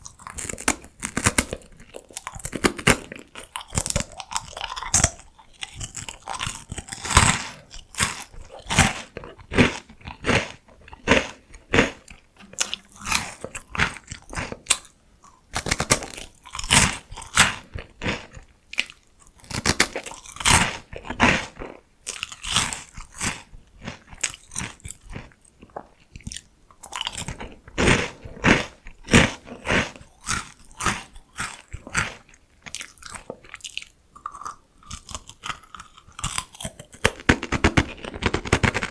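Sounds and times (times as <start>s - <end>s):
person chewing crunchy snacks: 0.0s - 38.9s.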